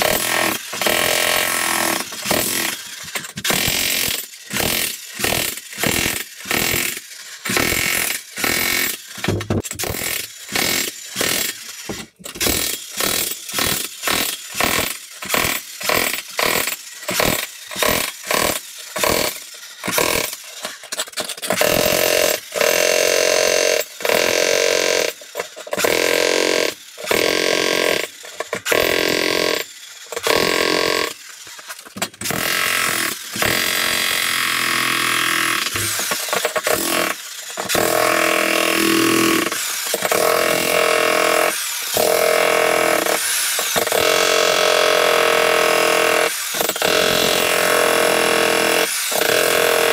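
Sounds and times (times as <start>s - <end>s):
jackhammer breaking concrete: 0.0s - 49.9s.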